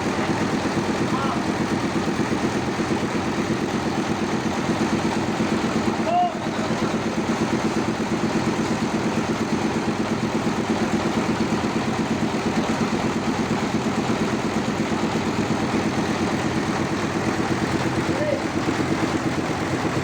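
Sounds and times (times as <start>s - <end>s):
sawmill engine pulsing: 0.0s - 20.0s.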